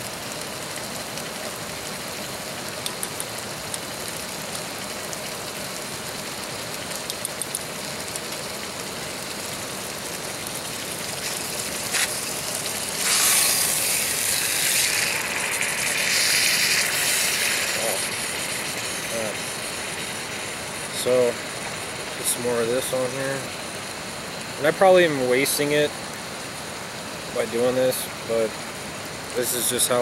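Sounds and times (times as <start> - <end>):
steak sizzling in skillet: 0.0 - 25.5
steady hiss of camp stove: 0.0 - 30.0.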